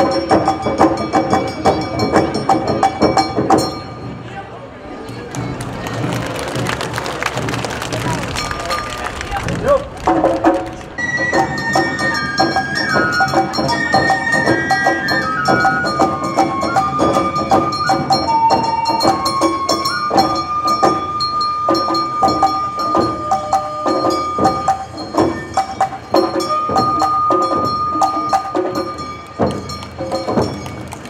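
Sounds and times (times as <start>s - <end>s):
taiko drums: 0.0s - 4.3s, 5.1s - 31.0s
bamboo flute melody: 0.0s - 31.0s.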